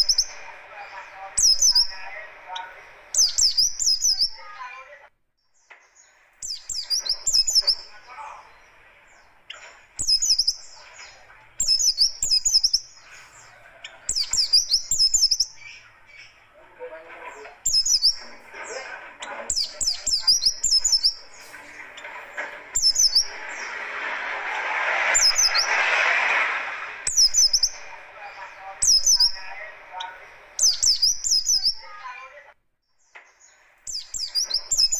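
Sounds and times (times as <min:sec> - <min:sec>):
bird singing rapid high notes: 0:00.0 - 0:04.6, 0:05.4 - 0:16.5, 0:17.6 - 0:18.3, 0:19.2 - 0:22.1, 0:22.7 - 0:24.0, 0:25.1 - 0:25.9, 0:27.0 - 0:32.2, 0:32.8 - 0:34.9
background hiss: 0:00.0 - 0:34.9.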